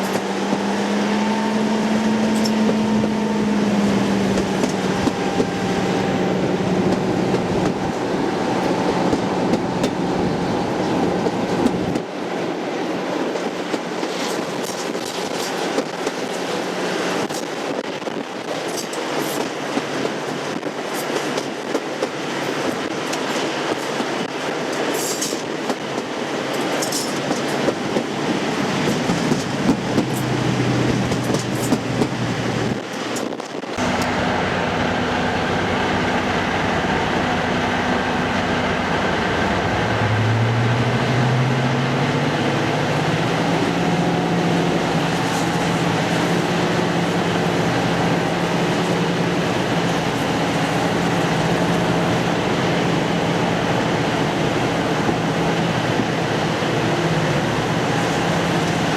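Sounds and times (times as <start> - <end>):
train wheels clicking on rail joints: 0.0 - 0.8, 1.7 - 12.2, 13.1 - 34.2, 42.5 - 58.9
diesel locomotive engine running: 0.0 - 58.9.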